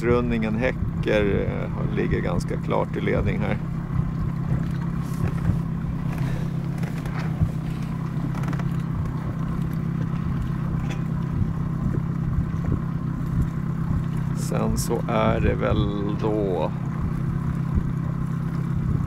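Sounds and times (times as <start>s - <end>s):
motorboat engine humming: 0.0s - 19.0s.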